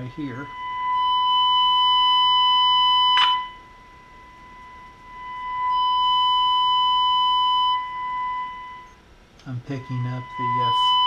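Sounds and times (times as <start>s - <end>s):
radio modulation tone: 0.0s - 11.0s.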